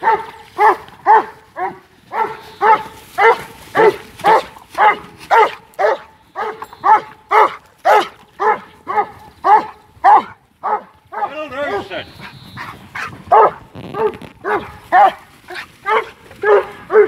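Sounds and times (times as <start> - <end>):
dog barking sharply: 0.0 - 17.0.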